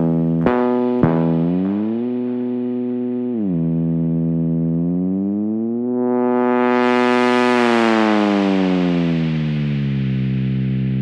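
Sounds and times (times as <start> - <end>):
gliding synthesizer bass: 0.0 - 11.0.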